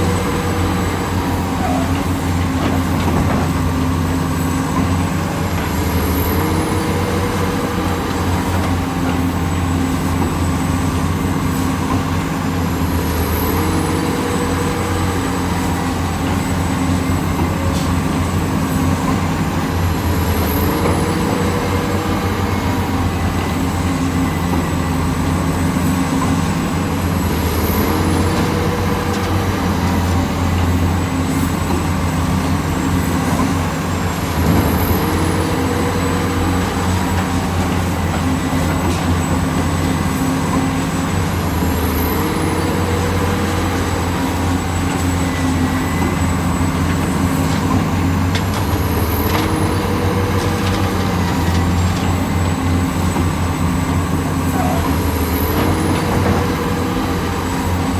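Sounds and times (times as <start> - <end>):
heavy diesel engines running: 0.0 - 57.9.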